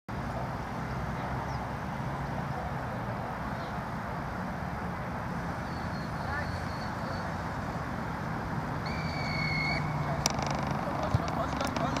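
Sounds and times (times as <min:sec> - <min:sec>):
low outdoor rumble: 0:00.2 - 0:12.0.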